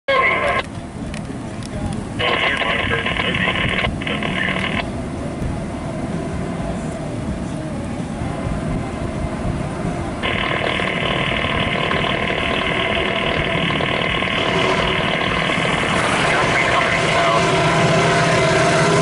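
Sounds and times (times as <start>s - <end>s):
idling cars and road traffic: 0.1s - 19.0s.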